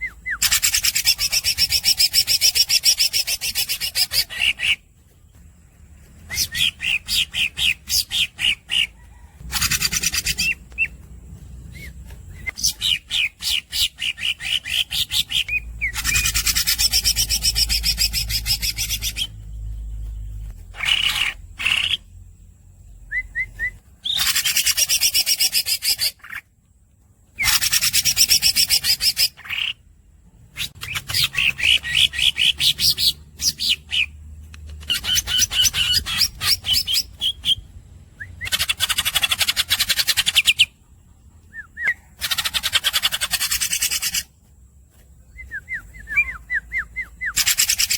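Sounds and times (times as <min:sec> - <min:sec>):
squeaky bird chirps: 0:00.0 - 0:04.9, 0:06.2 - 0:11.0, 0:11.6 - 0:22.1, 0:23.1 - 0:26.4, 0:27.4 - 0:29.9, 0:30.5 - 0:44.3, 0:45.3 - 0:47.9
bird singing fast rolls: 0:00.0 - 0:47.9.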